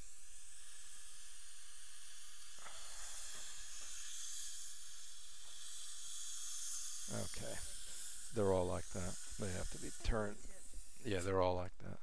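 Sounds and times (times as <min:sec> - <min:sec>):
dental suction hissing: 0:00.0 - 0:11.6.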